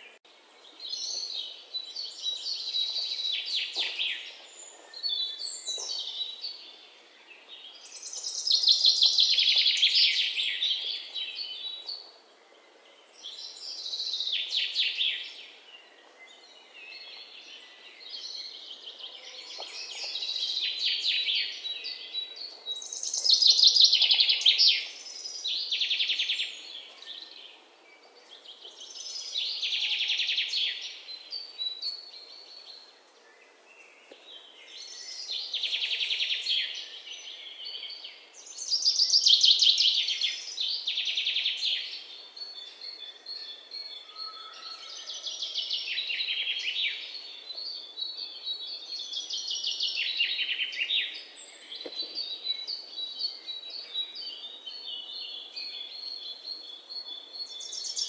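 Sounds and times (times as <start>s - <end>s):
birds twittering softly: 0.0s - 58.0s.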